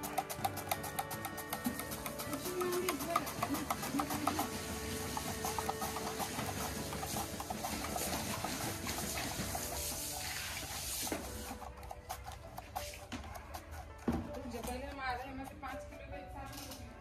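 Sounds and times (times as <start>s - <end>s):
potato scraping on slicer blade: 0.0s - 15.9s
soft background music: 0.0s - 17.0s.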